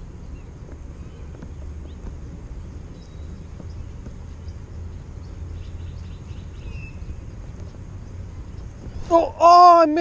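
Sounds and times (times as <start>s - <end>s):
faint bird chirps: 0.2s - 9.0s.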